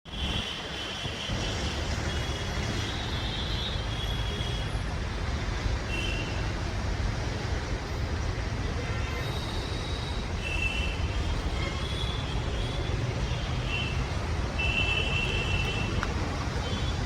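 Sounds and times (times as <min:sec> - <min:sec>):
city traffic rumble: 0:00.1 - 0:17.0.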